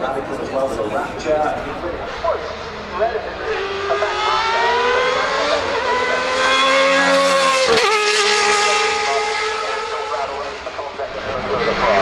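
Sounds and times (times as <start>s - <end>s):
race car engine accelerating: 2.1s - 12.0s.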